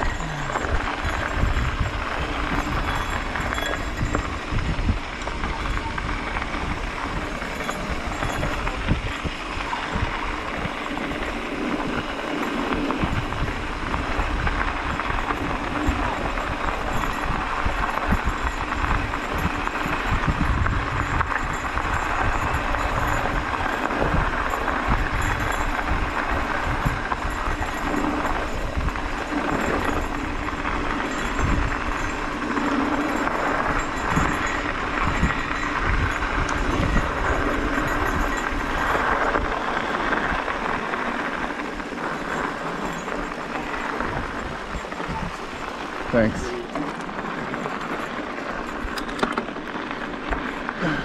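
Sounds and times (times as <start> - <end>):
wind rush: 0.0 - 49.1
tyres rolling on dirt trail: 0.0 - 51.0.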